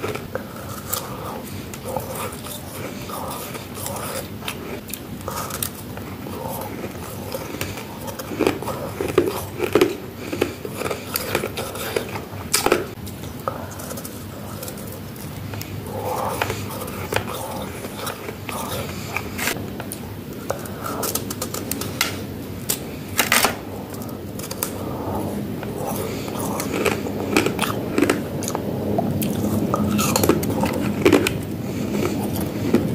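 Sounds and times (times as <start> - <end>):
crunching frost being chewed: 0.0 - 19.6, 20.4 - 32.9.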